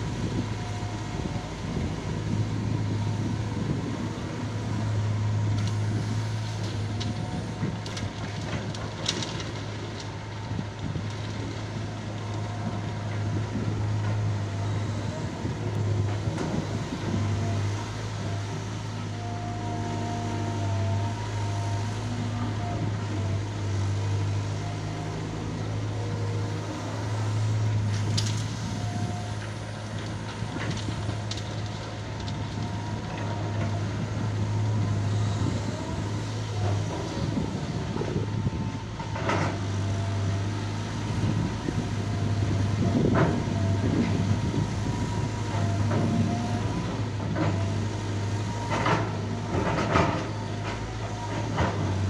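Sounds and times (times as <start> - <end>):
heavy diesel engine humming: 0.0 - 52.0.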